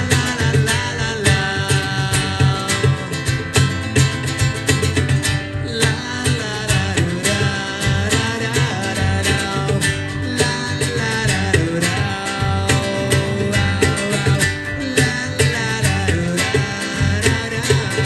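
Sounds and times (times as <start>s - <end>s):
bass: 0.0s - 18.0s
steady drum beat: 0.0s - 18.0s.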